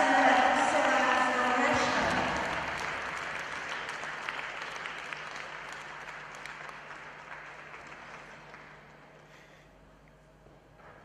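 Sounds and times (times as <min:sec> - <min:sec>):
audience applauding: 0:00.2 - 0:09.4.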